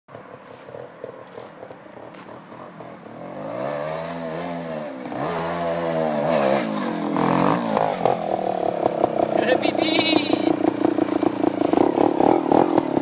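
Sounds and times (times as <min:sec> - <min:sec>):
motorcycle engine revving: 0:00.4 - 0:13.0.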